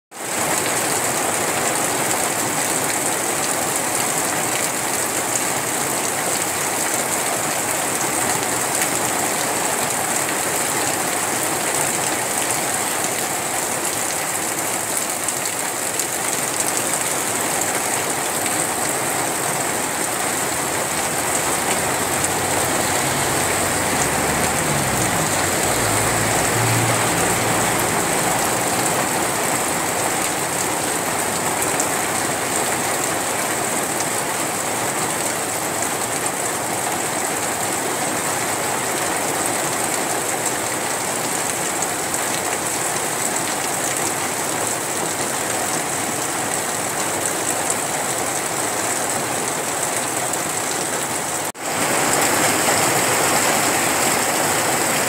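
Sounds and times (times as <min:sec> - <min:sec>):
heavy rain falling: 0:00.1 - 0:55.0.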